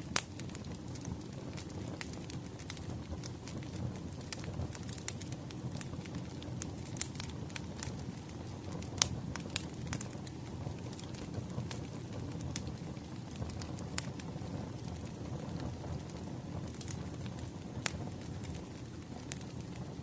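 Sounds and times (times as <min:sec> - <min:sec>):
low rumble of burning logs: 0:00.0 - 0:20.0
wood fire crackling: 0:00.0 - 0:20.0.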